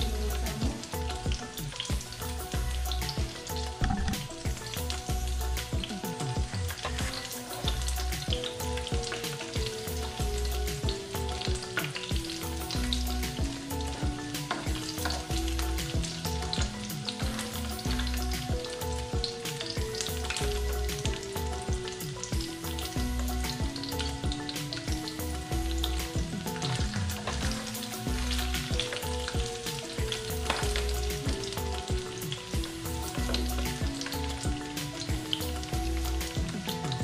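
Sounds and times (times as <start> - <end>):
background music with beat: 0.0 - 37.0
food sizzling in hot oil: 0.0 - 37.0.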